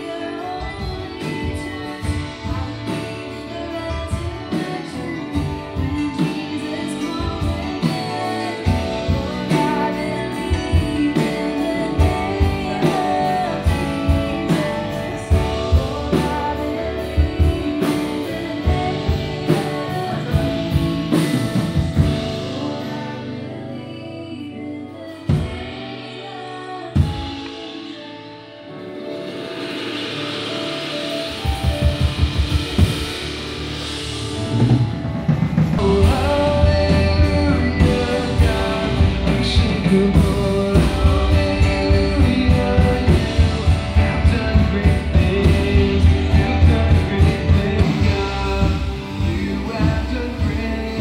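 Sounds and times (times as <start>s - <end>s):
drum kit: 0.0s - 24.1s, 25.0s - 51.0s
woman singing: 0.0s - 29.2s, 35.7s - 51.0s
acoustic and electric guitars: 0.0s - 51.0s.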